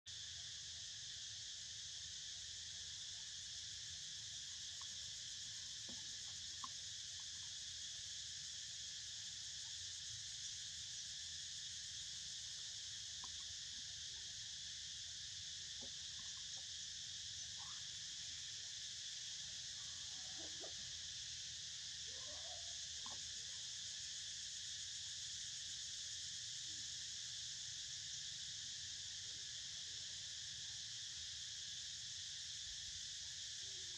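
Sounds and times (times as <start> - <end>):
insects buzzing: 0.1 - 33.9.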